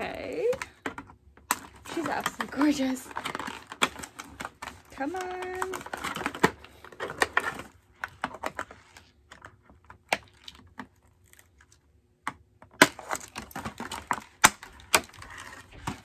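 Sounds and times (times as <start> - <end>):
plastic packaging clicks and snaps: 0.5 - 16.0.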